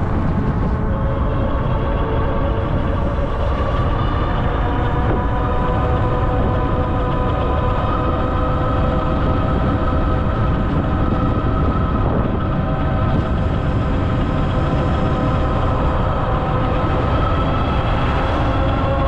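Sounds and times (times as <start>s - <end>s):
electric bike drive whine: 0.0s - 19.0s
wind rumble on microphone: 0.0s - 19.0s.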